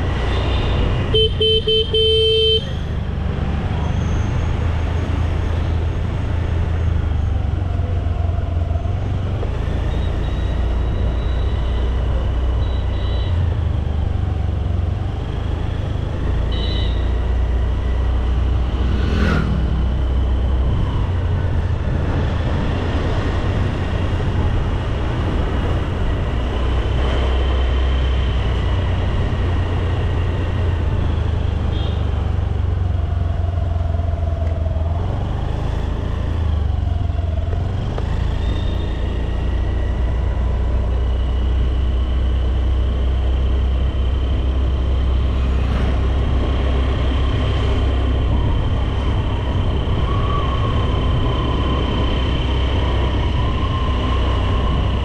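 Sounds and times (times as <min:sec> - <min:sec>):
road rumble: 0:00.0 - 0:55.0
wind: 0:00.0 - 0:55.0.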